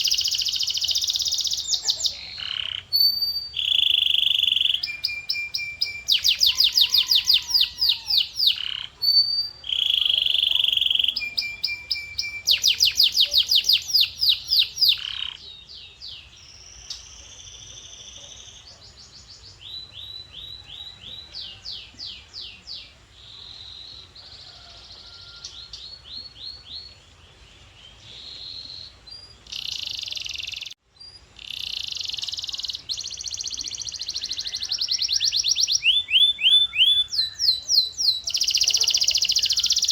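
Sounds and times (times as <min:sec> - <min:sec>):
canary singing: 0:00.0 - 0:27.0, 0:27.6 - 0:39.9.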